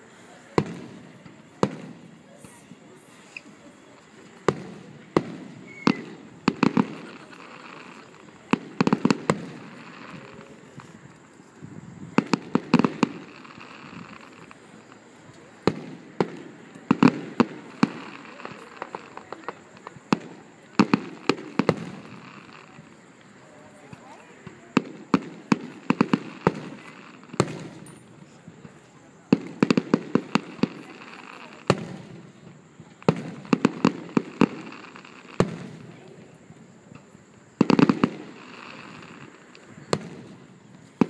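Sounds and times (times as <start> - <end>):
distant fireworks bangs: 0.4 - 11.3, 12.0 - 41.0.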